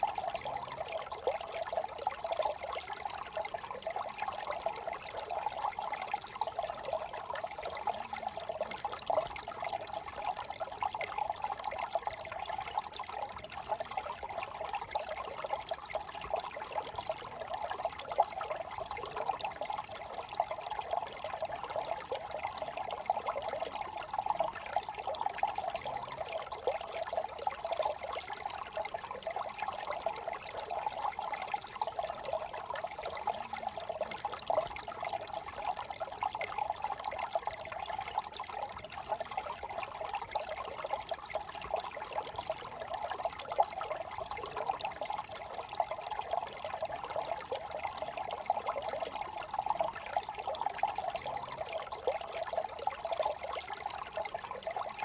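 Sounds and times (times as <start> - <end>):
brook babbling over stones: 0.0 - 55.0.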